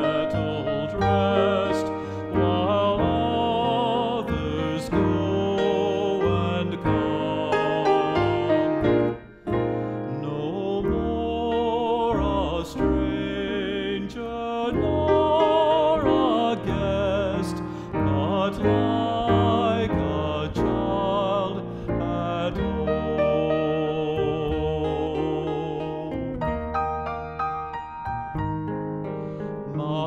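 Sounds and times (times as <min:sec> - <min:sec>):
man singing a hymn: 0:00.0 - 0:26.5, 0:29.6 - 0:30.0
upright bass: 0:00.0 - 0:30.0.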